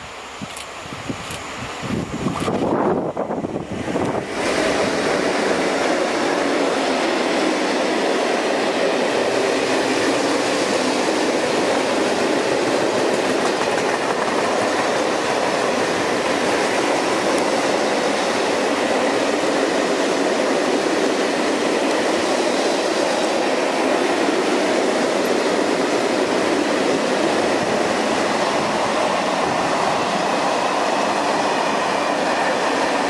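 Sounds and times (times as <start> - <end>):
train wheels rolling on rails: 0.0 - 33.0.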